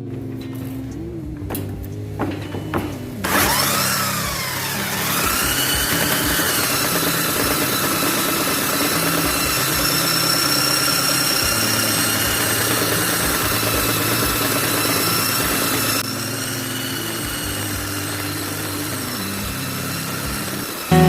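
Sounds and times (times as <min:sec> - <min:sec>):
electric belt sander whining: 0:00.9 - 0:21.0.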